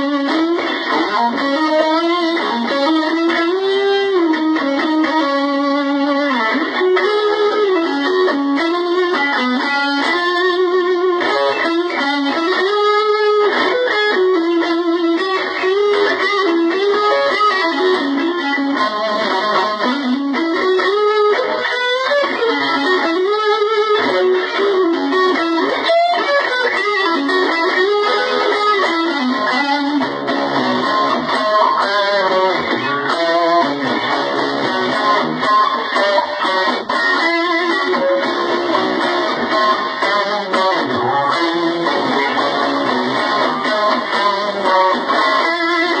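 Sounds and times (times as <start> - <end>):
electric guitar lead line: 0.0 - 46.0.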